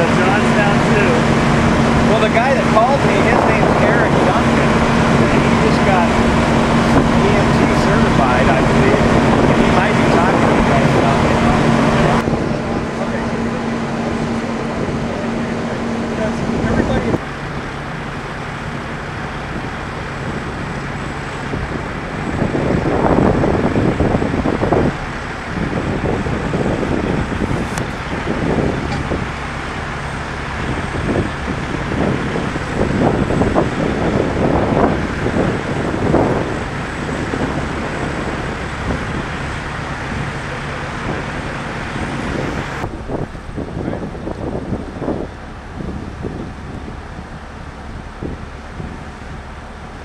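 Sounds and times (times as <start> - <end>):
diesel vehicles idling: 0.0 - 50.0
engine rumbling surges: 0.0 - 50.0
road noise: 0.0 - 50.0.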